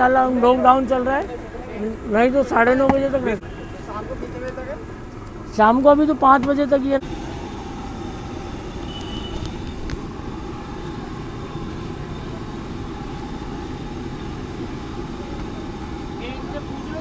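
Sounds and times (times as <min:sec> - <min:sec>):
low rumble of street noise: 0:00.0 - 0:17.0.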